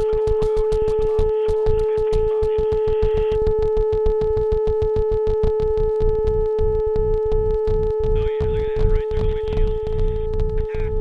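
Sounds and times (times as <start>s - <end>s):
rapid low thumps: 0.0s - 11.0s
steady droning tone: 0.0s - 11.0s.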